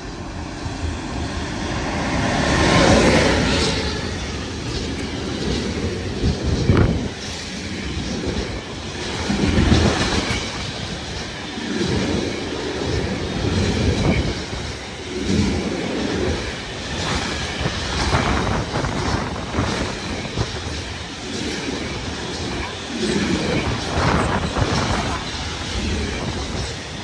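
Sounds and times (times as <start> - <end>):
freight train passing: 0.0 - 27.0
train wheels clicking and clattering: 2.0 - 27.0.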